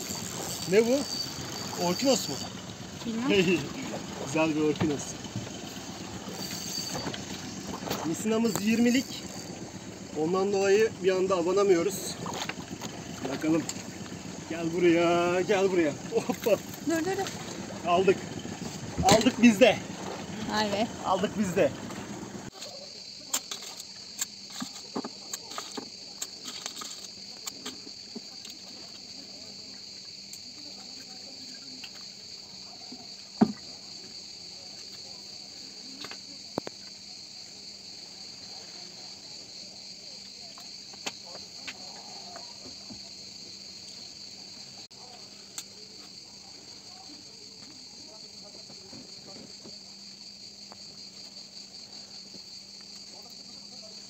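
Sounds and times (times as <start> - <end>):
cicadas chirring: 0.0 - 54.0.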